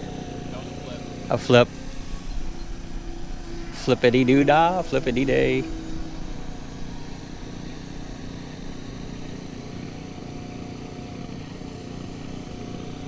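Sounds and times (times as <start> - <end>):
model aircraft motor droning: 0.0 - 13.0.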